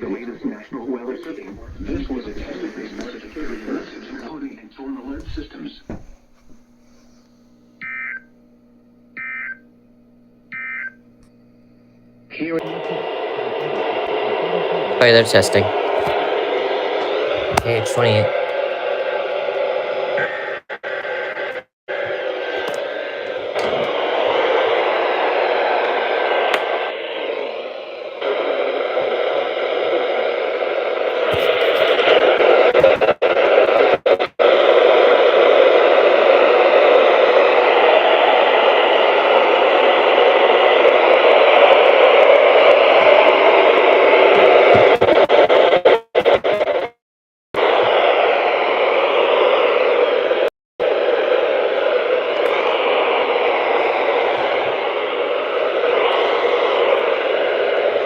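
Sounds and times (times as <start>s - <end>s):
radio static hiss: 0.0s - 7.9s, 12.3s - 47.0s, 47.6s - 58.0s.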